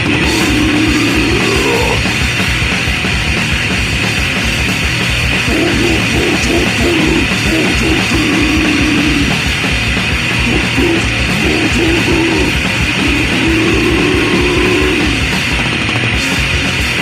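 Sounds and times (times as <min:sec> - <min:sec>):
bass: 0:00.0 - 0:17.0
distorted guitar riff: 0:00.0 - 0:17.0
fast pounding drums: 0:00.0 - 0:17.0.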